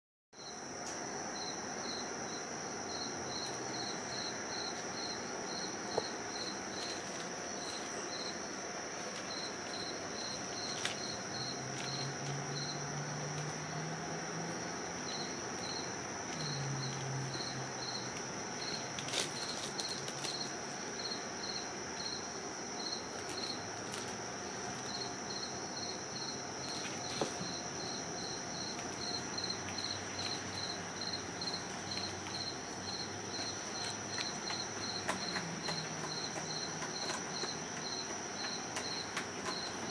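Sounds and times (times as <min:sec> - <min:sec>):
cricket chirping: 0:00.4 - 0:39.9.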